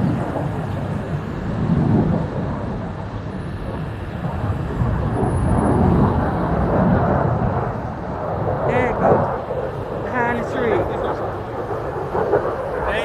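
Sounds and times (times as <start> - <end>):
aircraft engine rumble overhead: 0.0 - 13.0.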